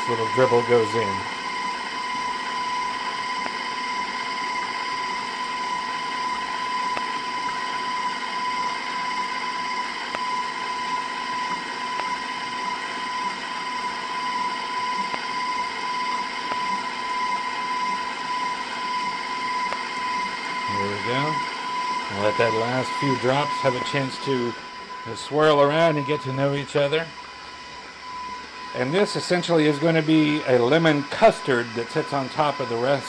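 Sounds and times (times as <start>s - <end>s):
stand mixer motor whining: 0.0s - 33.0s.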